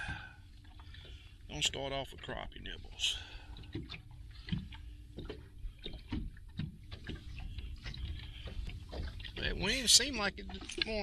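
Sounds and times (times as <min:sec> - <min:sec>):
waves lapping against boat hull: 0:00.0 - 0:11.0.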